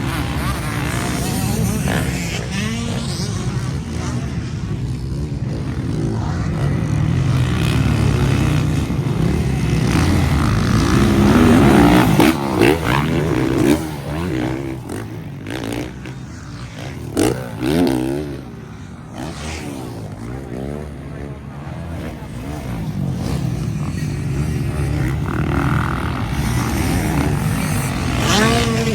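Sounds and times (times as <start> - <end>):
motocross bikes revving past: 0.0 - 28.9.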